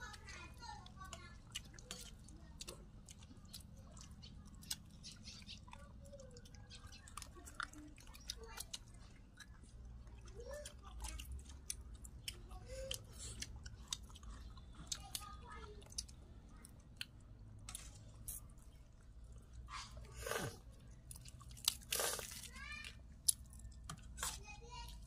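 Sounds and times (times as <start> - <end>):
people chewing food: 0.0 - 25.0.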